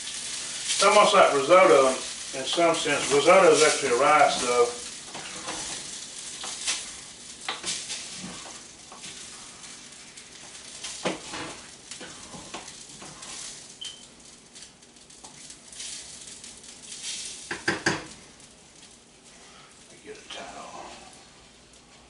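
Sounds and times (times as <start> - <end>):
food sizzling in a pot: 0.0 - 22.0.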